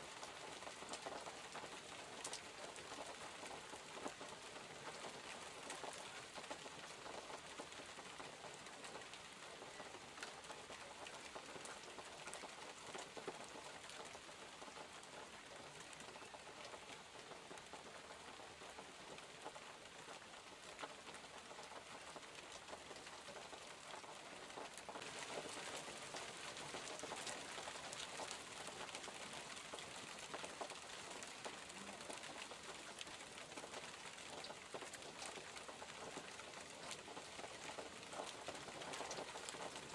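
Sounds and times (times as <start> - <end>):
rain drops tapping on surfaces: 0.0 - 39.9.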